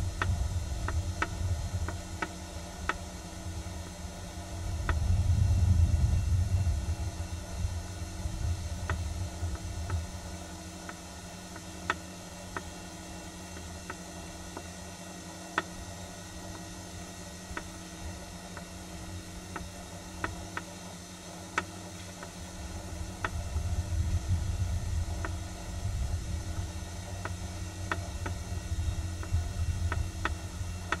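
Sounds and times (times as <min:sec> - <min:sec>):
faint hum: 0:00.0 - 0:31.0
low outdoor rumble: 0:00.0 - 0:31.0.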